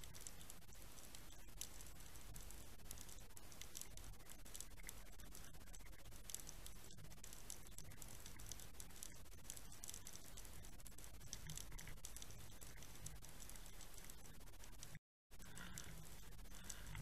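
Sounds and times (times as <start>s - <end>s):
low hiss and rumble: 0.0s - 17.0s
underwater crackle of fine clicks: 0.0s - 17.0s.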